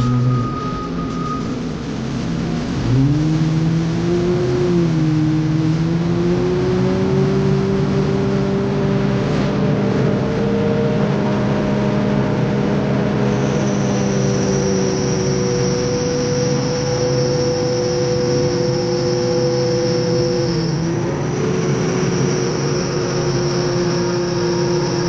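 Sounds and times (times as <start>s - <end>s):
diesel engines of heavy machinery: 0.0s - 25.0s
high-pitched whine: 0.0s - 25.0s.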